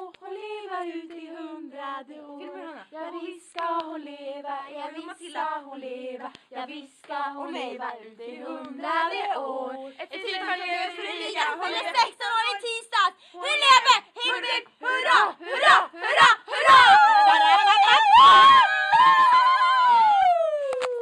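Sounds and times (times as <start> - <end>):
girl singing unaccompanied: 0.0 - 18.1.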